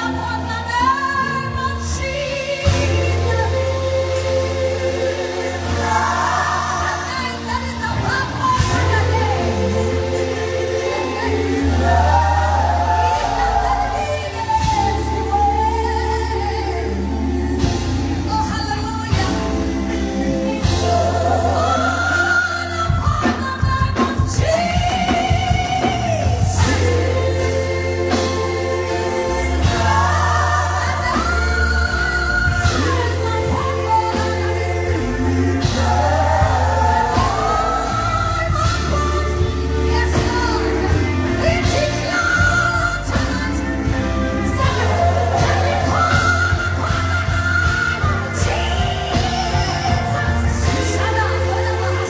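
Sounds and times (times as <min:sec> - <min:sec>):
backing singers: 0:00.0 - 0:52.0
band playing gospel music: 0:00.0 - 0:52.0
woman singing lead vocal: 0:00.0 - 0:52.0.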